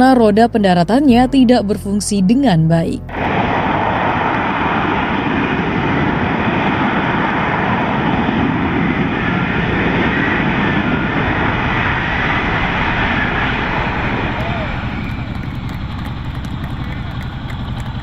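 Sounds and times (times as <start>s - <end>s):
jet engine running: 0.0s - 18.0s.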